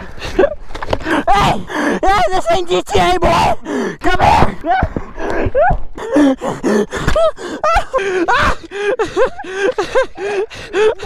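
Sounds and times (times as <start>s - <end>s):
man gasping and grunting: 0.0s - 2.1s, 3.6s - 4.0s, 4.6s - 11.0s.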